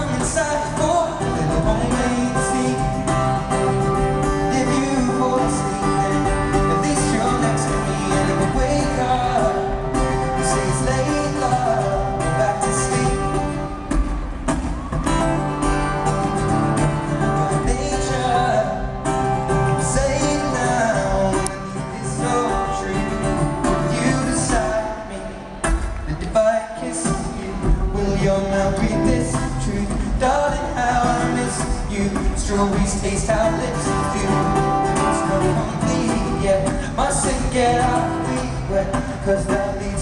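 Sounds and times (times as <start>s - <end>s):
person singing: 0.0s - 14.0s, 15.0s - 40.0s
acoustic guitar: 0.0s - 40.0s.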